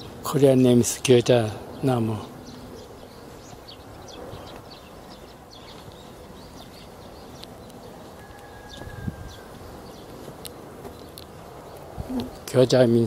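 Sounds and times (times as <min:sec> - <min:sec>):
birds chirping: 0:00.0 - 0:13.0
steady outdoor hiss: 0:00.0 - 0:13.0.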